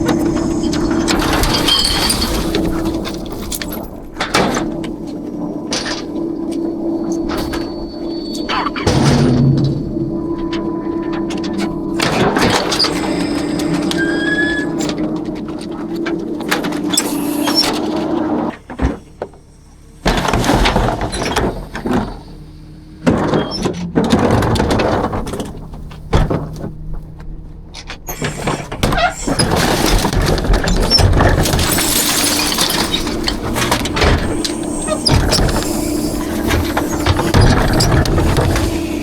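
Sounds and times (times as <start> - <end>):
sharp knocks and squeals: 0.0 - 26.9, 27.8 - 39.0
trash crashing and clattering: 0.0 - 39.0.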